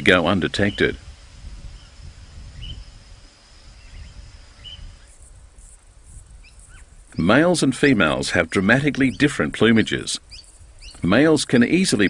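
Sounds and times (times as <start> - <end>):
high insect-like drone: 0.0 - 12.0
soft bird chirps: 1.7 - 12.0.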